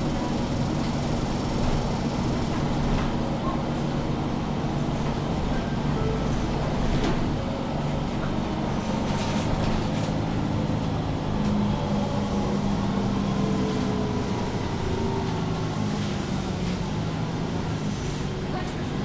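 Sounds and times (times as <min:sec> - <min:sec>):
bus diesel engine idling: 0:00.0 - 0:19.0.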